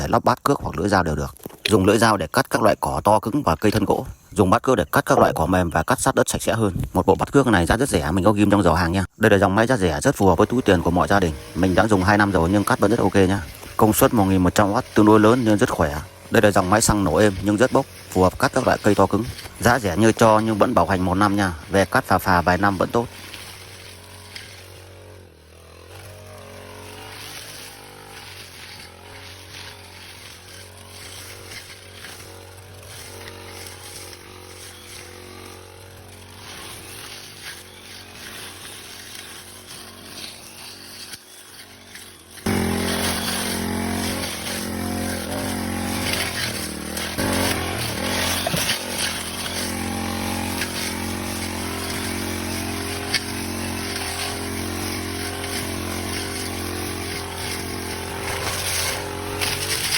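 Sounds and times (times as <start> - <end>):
brush cutter engine running: 0.0 - 59.9.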